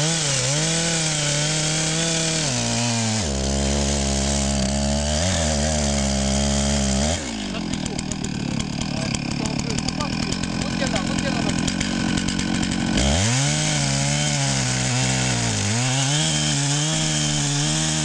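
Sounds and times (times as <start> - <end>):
chainsaw cutting into tree: 0.0 - 18.0.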